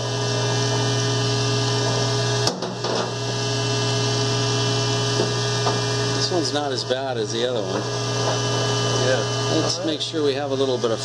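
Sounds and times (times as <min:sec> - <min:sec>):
vacuum pumps humming: 0:00.0 - 0:11.0.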